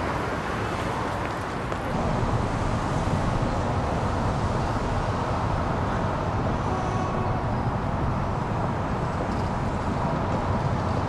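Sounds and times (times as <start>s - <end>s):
city traffic noise: 0.0s - 11.0s.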